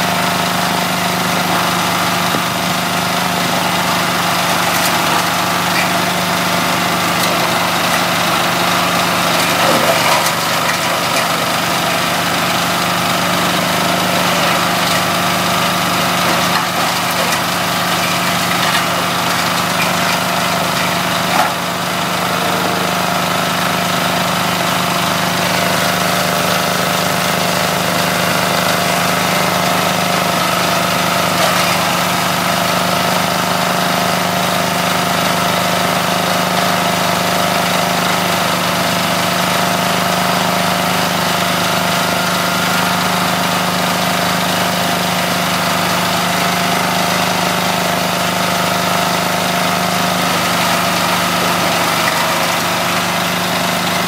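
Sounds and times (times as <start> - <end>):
engine-driven shredder running: 0.0 - 54.0.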